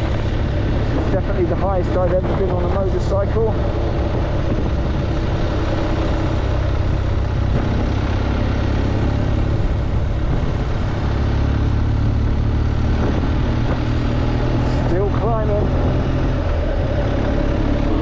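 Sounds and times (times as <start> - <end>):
motorcycle engine pulling uphill: 0.0 - 18.0
wind noise: 0.0 - 18.0.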